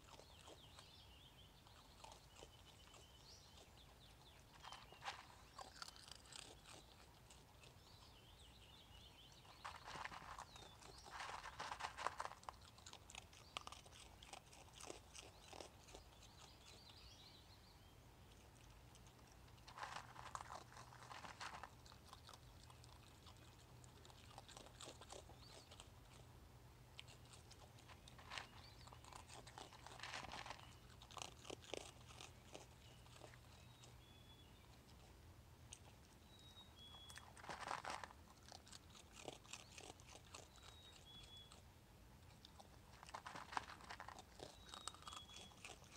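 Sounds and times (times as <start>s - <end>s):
raccoon chewing and crunching food: 0.0s - 17.4s, 18.1s - 45.9s.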